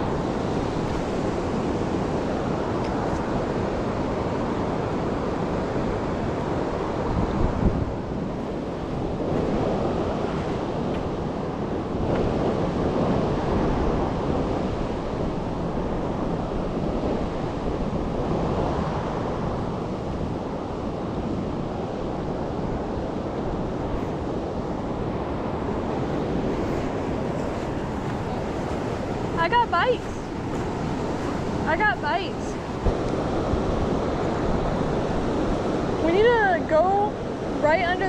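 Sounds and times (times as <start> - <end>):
creek water rushing: 0.0 - 38.0
wind on microphone: 0.0 - 38.0.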